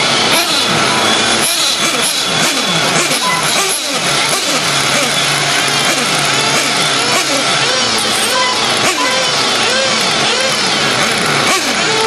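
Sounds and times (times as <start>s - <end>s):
rc truck electric motors whining: 0.0s - 12.0s.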